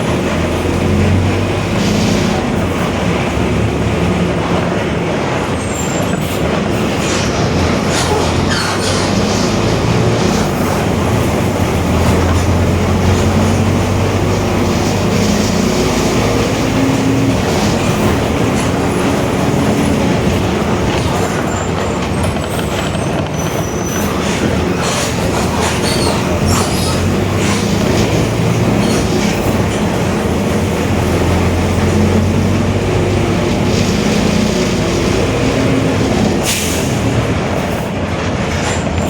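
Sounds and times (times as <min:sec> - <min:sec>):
bus engine and road rumble: 0:00.0 - 0:39.0.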